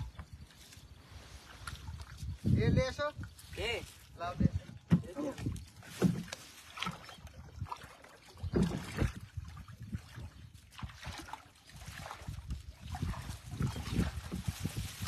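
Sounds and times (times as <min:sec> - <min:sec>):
muddy water splashing: 0:00.0 - 0:15.0.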